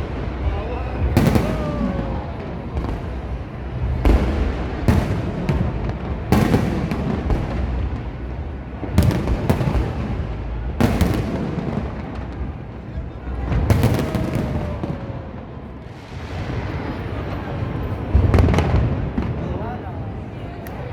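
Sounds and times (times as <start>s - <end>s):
low rumble: 0.0s - 19.1s
fireworks bangs: 0.0s - 19.7s.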